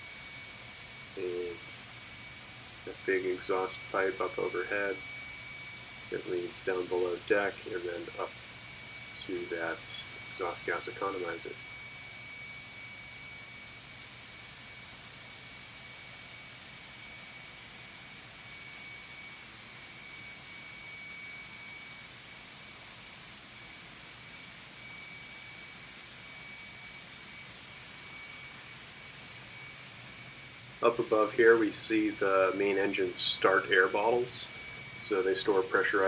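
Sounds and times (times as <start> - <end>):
turbocharger high whine: 0.0 - 36.0.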